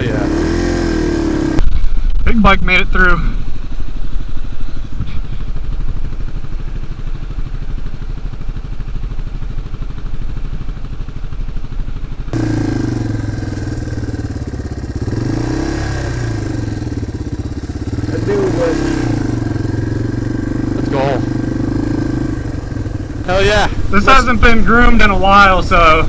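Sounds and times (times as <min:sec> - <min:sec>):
dirt bike engine: 0:00.0 - 0:26.0.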